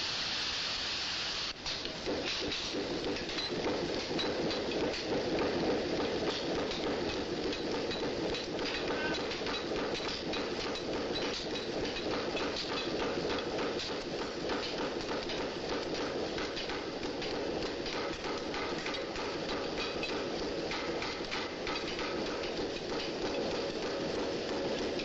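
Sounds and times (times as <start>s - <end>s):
forge rushing noise: 1.5s - 25.0s
knocking and clattering: 1.6s - 25.0s.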